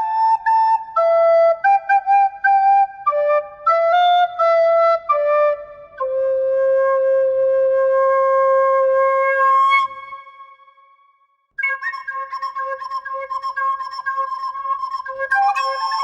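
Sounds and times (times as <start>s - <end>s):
solo flute-like melody: 0.0s - 11.0s, 11.6s - 16.0s.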